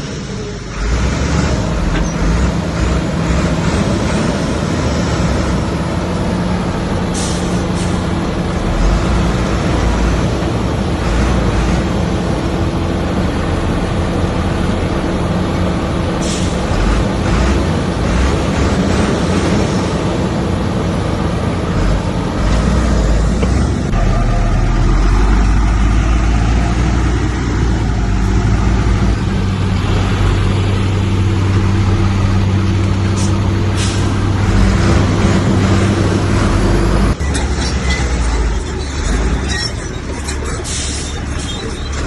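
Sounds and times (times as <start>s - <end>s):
bulldozer diesel engine: 0.0s - 42.0s.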